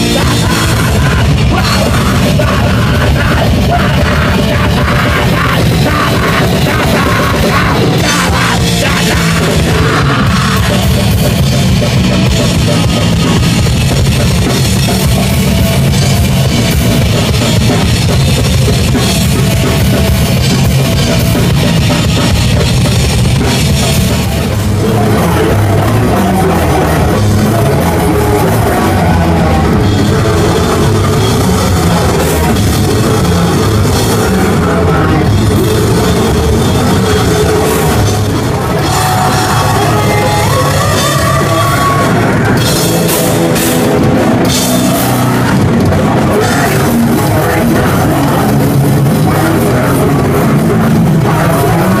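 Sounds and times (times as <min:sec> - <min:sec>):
death metal band playing live: 0:00.0 - 0:52.0
drum kit and cymbals: 0:00.0 - 0:52.0
electric guitars: 0:00.0 - 0:52.0.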